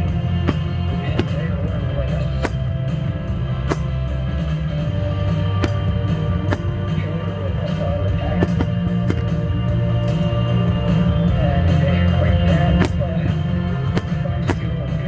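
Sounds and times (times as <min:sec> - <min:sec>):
rock music with guitar and drums: 0:00.0 - 0:15.0.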